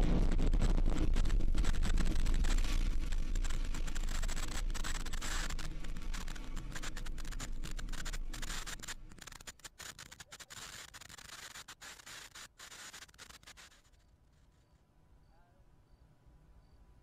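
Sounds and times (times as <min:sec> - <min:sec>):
rocket engines crackling rumble: 0:00.0 - 0:14.0.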